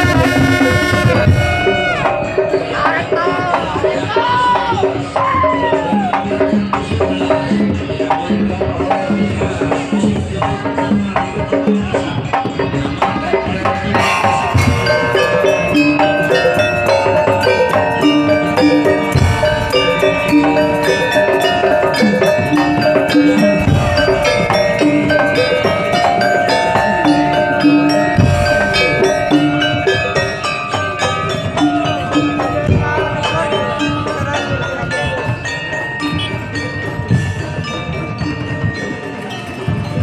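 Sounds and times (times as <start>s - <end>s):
percussion band playing: 0.0s - 40.0s.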